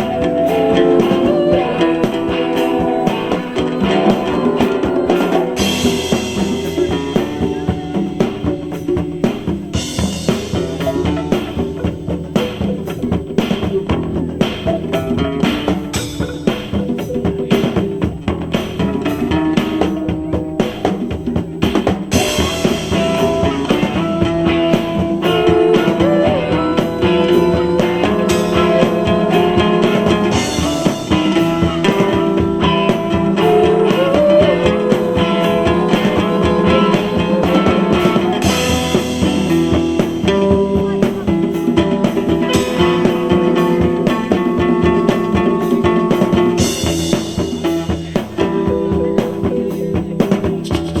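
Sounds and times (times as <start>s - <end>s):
electric guitar held notes: 0.0s - 16.6s, 17.2s - 51.0s
drum kit: 0.0s - 51.0s.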